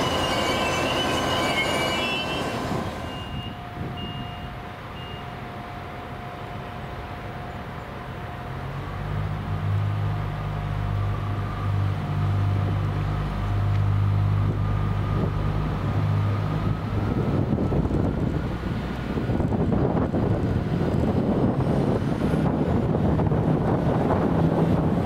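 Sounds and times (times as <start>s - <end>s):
diesel railcar engine revving: 0.0s - 5.1s, 6.4s - 25.0s.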